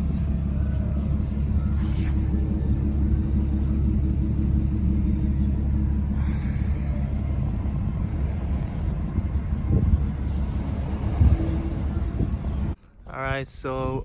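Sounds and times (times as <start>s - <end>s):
car exhaust idling: 0.0s - 12.8s.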